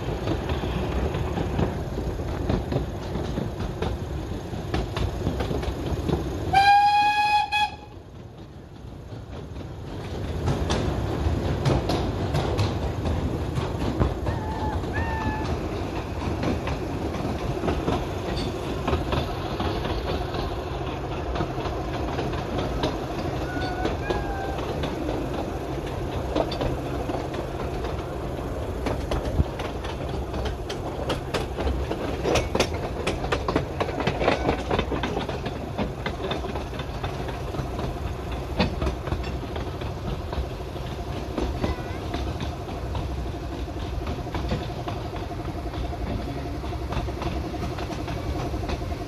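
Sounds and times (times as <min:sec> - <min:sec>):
train rumble: 0:00.0 - 0:49.0
wheels clicking over rail joints: 0:00.0 - 0:49.0.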